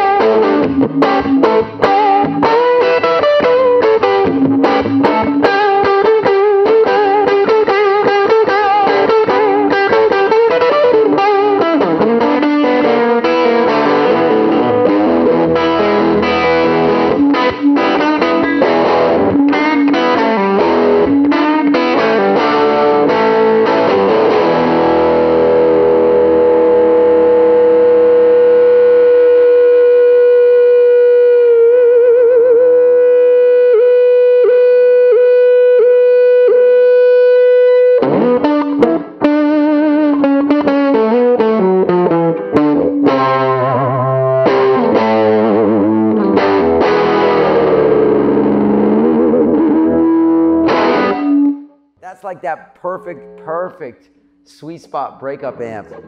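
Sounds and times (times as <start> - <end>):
overdriven electric guitar: 0.0 - 52.1, 52.9 - 54.5, 55.4 - 56.0.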